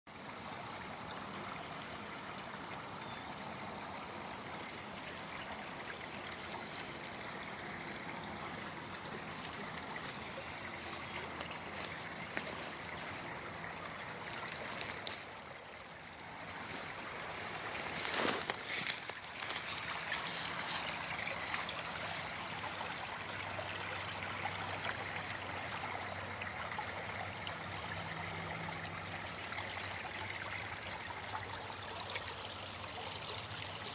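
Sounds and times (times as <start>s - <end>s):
stream water over rocks: 0.1s - 33.9s.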